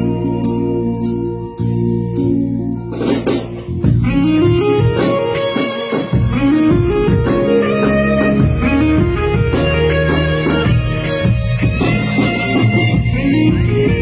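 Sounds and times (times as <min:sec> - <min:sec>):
band with guitars and beat: 0:00.0 - 0:14.0
held keyboard chord: 0:00.0 - 0:14.0.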